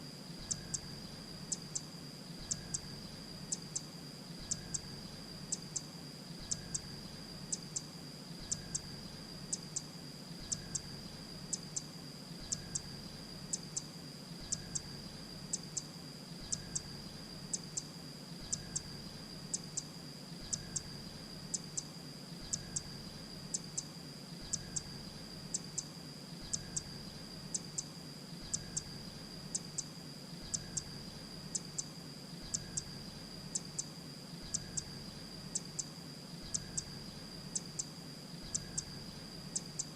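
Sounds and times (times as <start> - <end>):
continuous high-pitched tone: 0.0 - 39.9.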